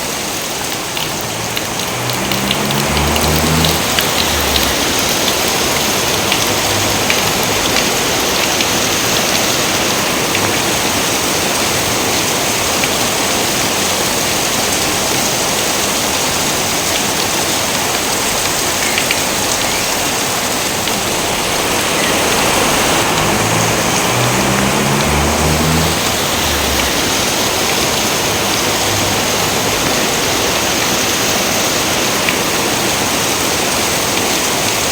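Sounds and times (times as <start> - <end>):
dense rain pattering: 0.0 - 34.9.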